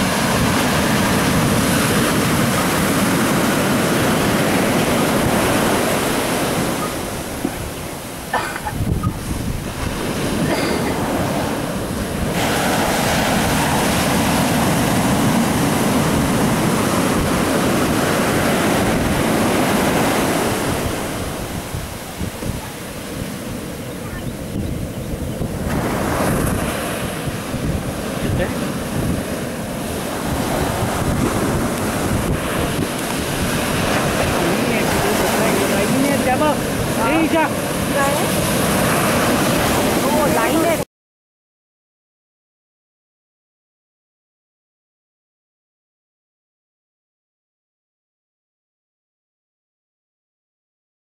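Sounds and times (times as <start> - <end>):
wind rumble on microphone: 0.0 - 40.8
ocean surf washing on beach: 0.0 - 40.9.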